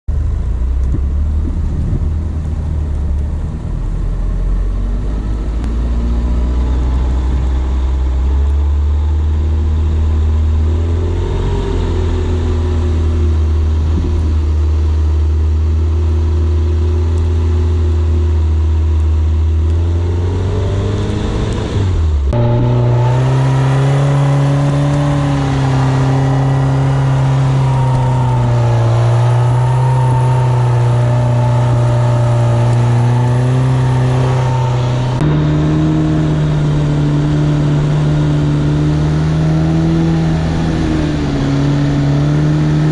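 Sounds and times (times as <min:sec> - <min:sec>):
engine running under load: 0:00.1 - 0:42.9.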